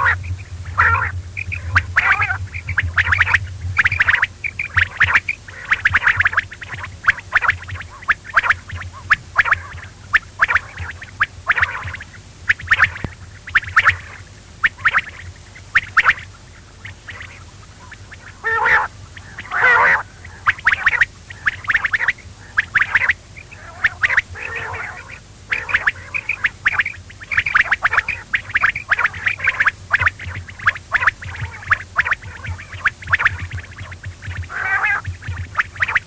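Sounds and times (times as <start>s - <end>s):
quail calling: 0.0s - 36.0s
steady low hum: 0.0s - 36.0s.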